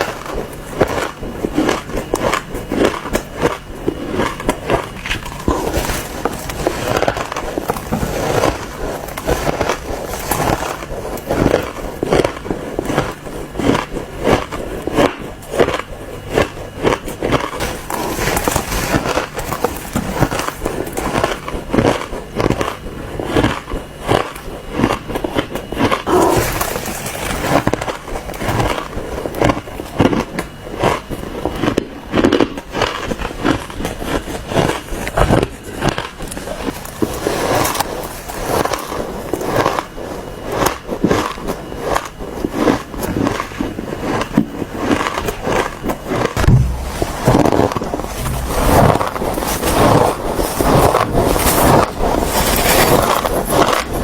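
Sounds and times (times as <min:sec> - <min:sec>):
ice crunching while chewed: 0:00.0 - 0:47.1, 0:47.8 - 0:54.0.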